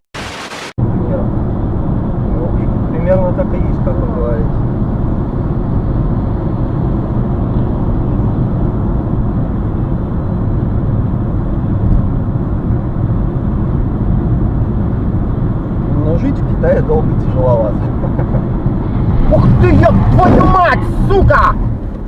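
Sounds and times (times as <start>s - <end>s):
car engine and road noise: 0.1s - 22.0s.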